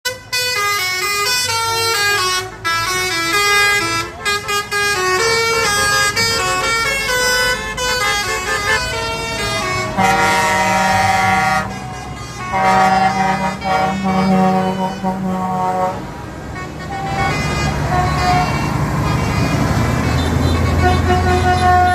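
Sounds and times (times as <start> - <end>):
vehicle horns honking: 0.0 - 21.9
engine noise: 0.1 - 21.9
multi-note air horn blast: 0.1 - 21.9.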